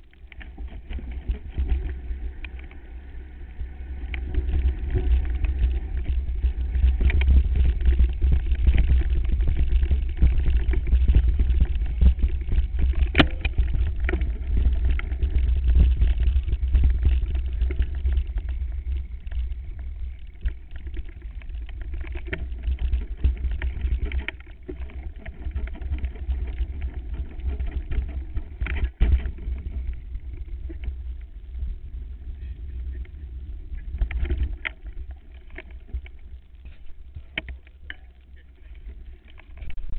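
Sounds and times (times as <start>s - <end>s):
bike rattling over bumpy grass: 0.0s - 39.9s
wind buffeting microphone: 0.6s - 37.4s.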